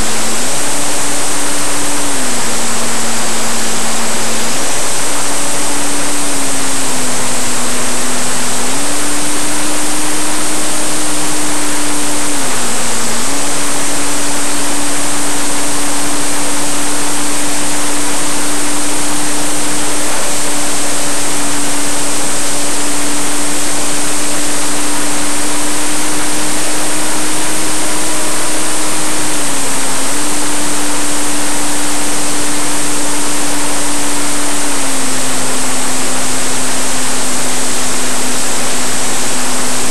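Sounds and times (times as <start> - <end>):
propeller and motor hum: 0.0 - 39.9.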